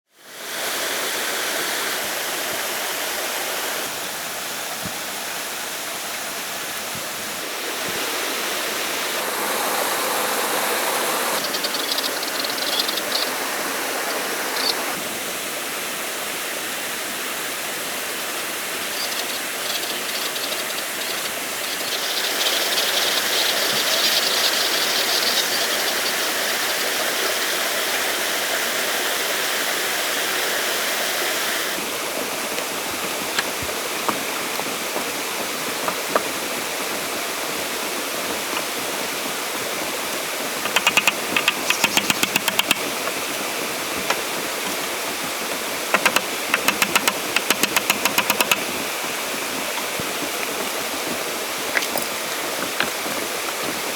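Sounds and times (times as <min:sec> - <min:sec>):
stream water rushing: 0:00.2 - 0:53.9.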